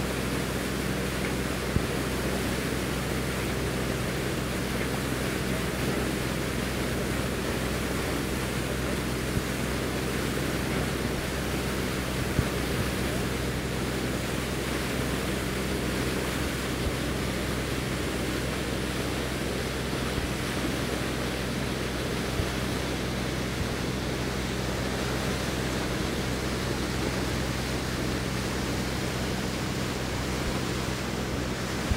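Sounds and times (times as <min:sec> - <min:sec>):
boat engine droning: 0:00.0 - 0:31.9
water and wind rushing: 0:00.0 - 0:31.9.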